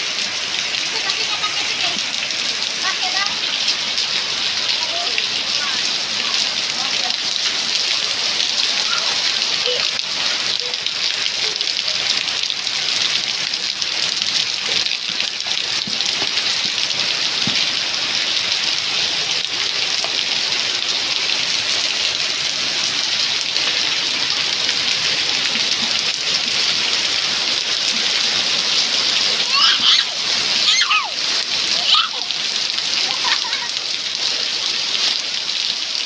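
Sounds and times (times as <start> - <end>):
heavy rain pattering: 0.0 - 36.0
water drips ticking: 0.1 - 36.0.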